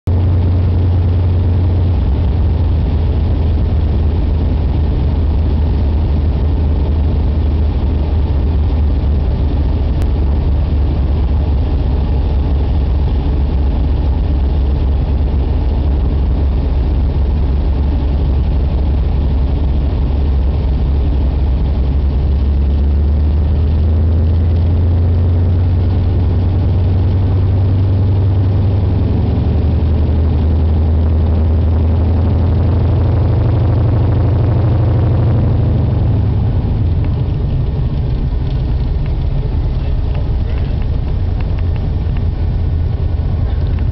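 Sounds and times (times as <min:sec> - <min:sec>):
plane engine and propeller droning: 0:00.1 - 0:43.9.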